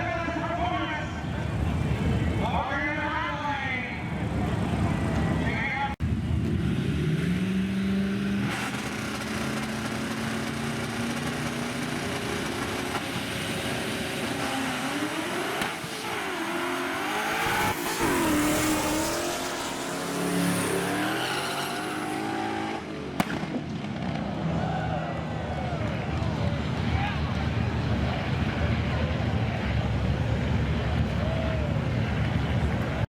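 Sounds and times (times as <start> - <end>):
truck engines revving: 0.0 - 2.5, 3.7 - 33.0.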